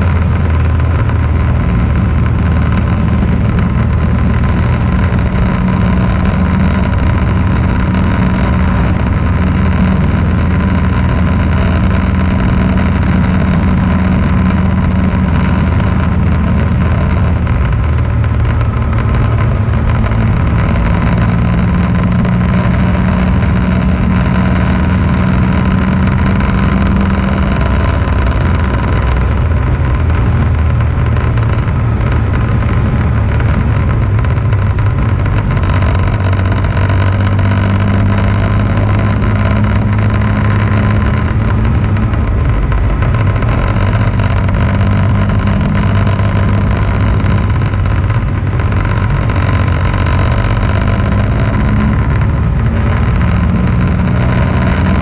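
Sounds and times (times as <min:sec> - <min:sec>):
motorcycle engine running: 0:00.0 - 0:55.0
rushing wind and road noise: 0:00.0 - 0:55.0.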